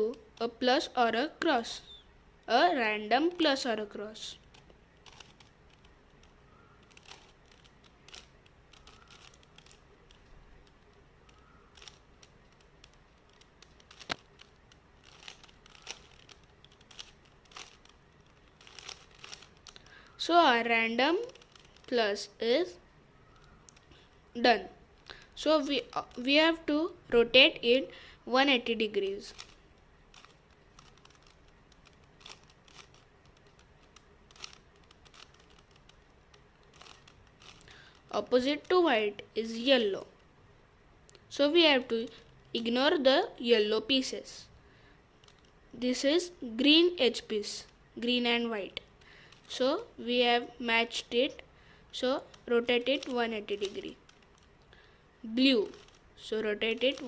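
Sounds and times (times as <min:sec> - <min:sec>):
puzzle cube clicking and scraping: 0:00.0 - 0:02.0, 0:03.1 - 0:27.9, 0:28.5 - 0:40.3, 0:45.2 - 0:57.0.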